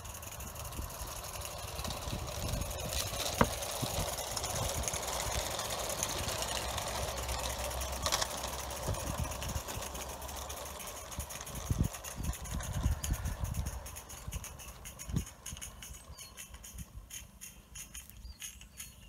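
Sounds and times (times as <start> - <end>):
model steam locomotive clatter: 0.0 - 19.0.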